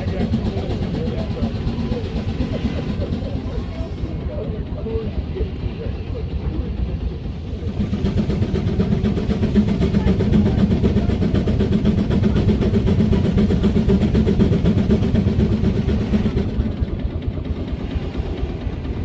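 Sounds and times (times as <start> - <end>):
steam engine under load: 0.0 - 19.0.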